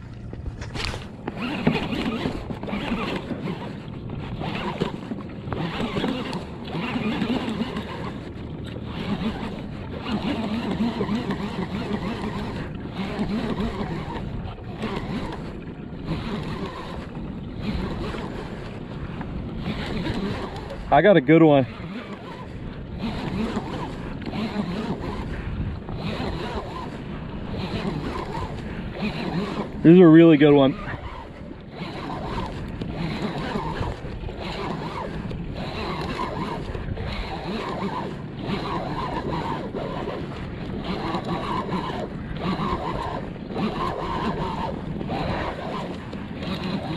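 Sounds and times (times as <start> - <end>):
fishing reel whirring: 0.0 - 46.9
water against a kayak: 0.0 - 46.9
wind on microphone: 0.0 - 46.9.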